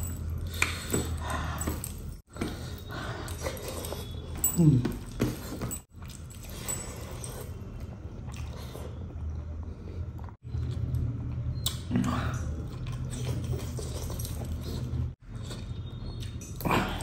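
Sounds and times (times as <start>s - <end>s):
man chewing food: 2.0s - 17.0s.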